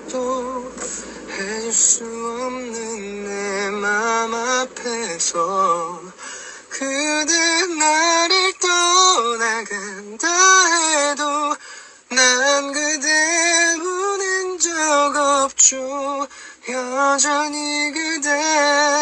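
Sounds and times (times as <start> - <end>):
man singing slow melody: 0.0 - 19.0.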